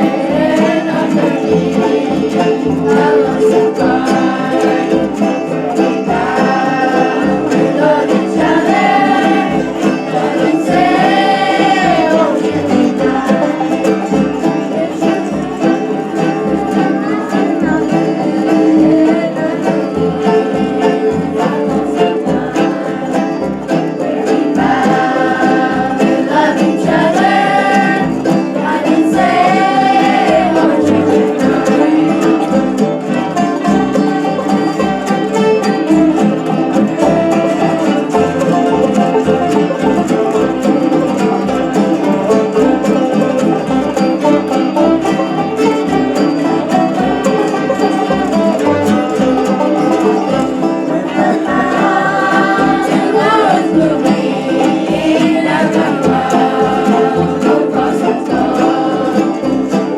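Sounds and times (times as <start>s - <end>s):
bluegrass band playing: 0.0s - 59.9s
person singing: 0.0s - 59.9s.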